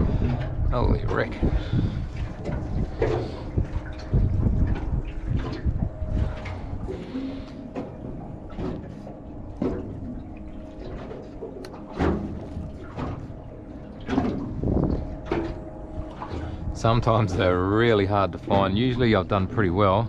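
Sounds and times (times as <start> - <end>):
boat engine rumble: 0.0 - 20.0
water slapping against hull: 0.0 - 20.0.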